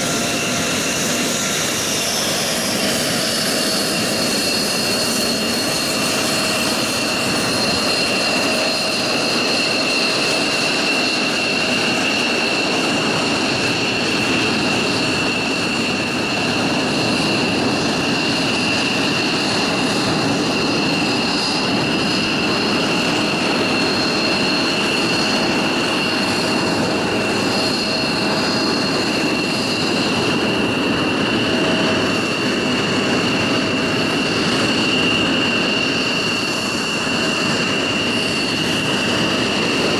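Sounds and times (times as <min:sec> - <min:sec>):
high jet whines: 0:00.0 - 0:39.9
jet engines roaring: 0:00.0 - 0:39.9.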